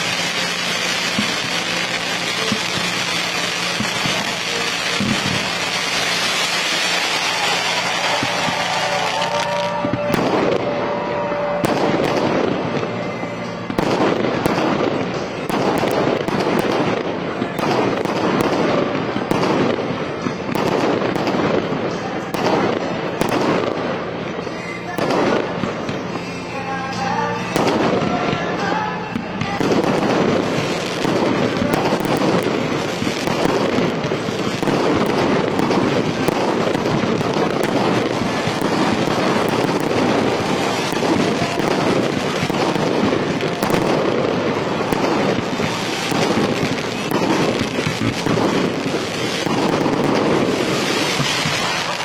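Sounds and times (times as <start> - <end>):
fireworks bangs and crackling: 0.0 - 52.0
music: 0.0 - 52.0.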